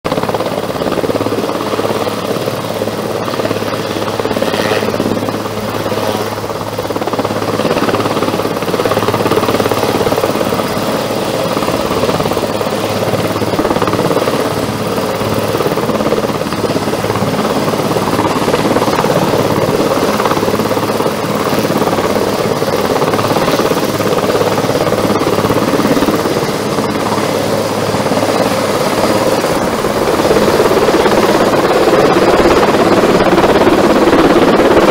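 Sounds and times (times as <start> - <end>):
helicopter rotor and engines: 0.0 - 34.9.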